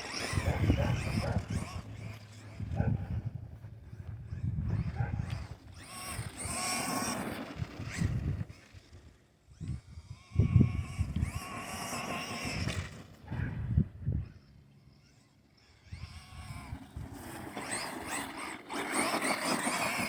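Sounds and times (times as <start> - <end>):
rc truck motor whining: 0.0 - 20.0.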